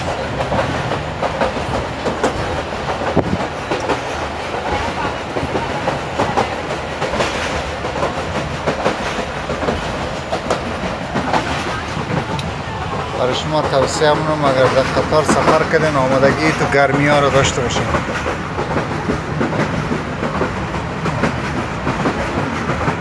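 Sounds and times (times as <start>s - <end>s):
train rumbling: 0.0s - 23.0s
wheels clattering over rails: 0.0s - 23.0s.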